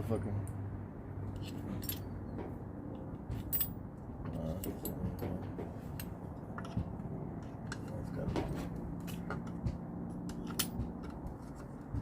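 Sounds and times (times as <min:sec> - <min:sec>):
steady low hum: 0:00.0 - 0:12.0
hand tools clicking and rattling: 0:01.3 - 0:12.0.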